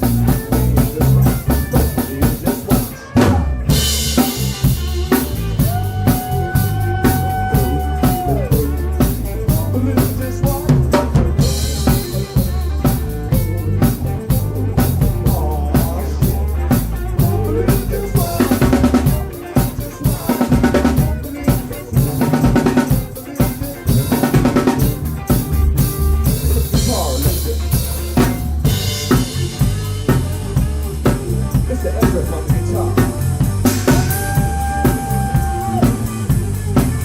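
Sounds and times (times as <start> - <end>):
bass line: 0.0 - 37.0
drum kit: 0.0 - 37.0.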